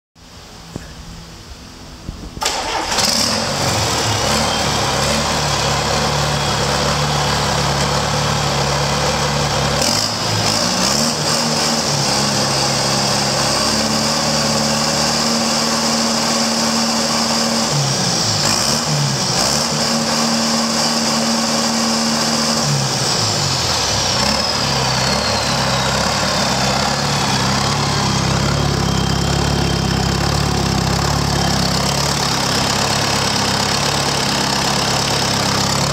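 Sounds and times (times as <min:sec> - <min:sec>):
turbocharger high whine: 0:01.2 - 0:35.9
diesel engine running: 0:01.7 - 0:35.9.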